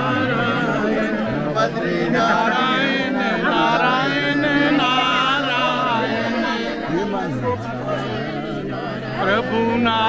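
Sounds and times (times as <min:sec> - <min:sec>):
voices singing devotional song: 0:00.0 - 0:10.0.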